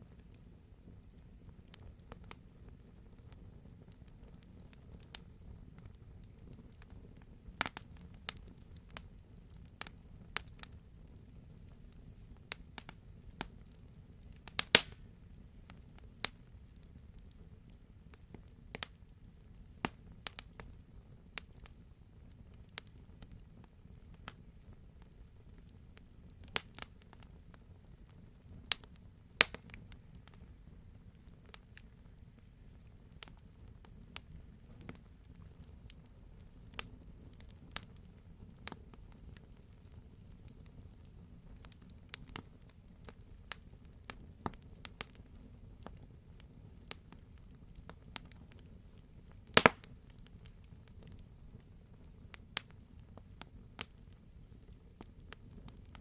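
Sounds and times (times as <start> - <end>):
low steady fire rumble: 0.0 - 56.0
burning logs popping: 0.1 - 56.0.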